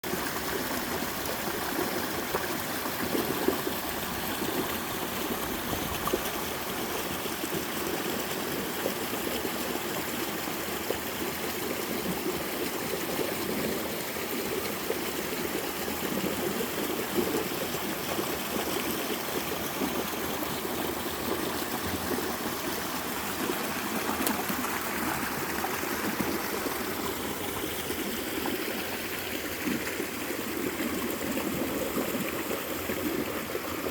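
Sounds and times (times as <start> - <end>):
water rushing down waterfall: 0.0 - 33.9.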